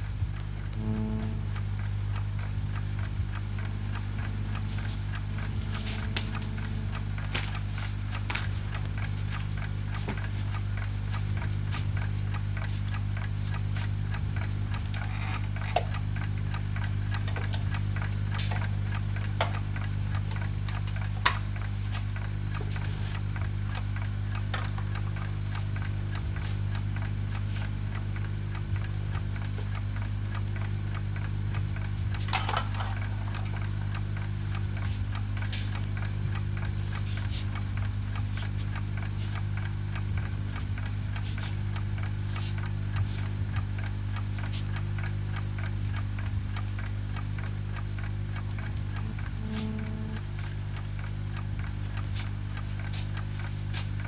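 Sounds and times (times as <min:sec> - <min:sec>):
constant low hum: 0:00.0 - 0:54.0
faint ticking and clicks: 0:00.0 - 0:54.0.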